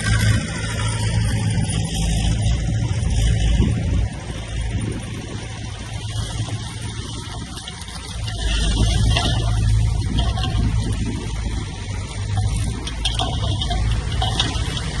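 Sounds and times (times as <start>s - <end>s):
construction machine diesel engine: 0.0s - 15.0s.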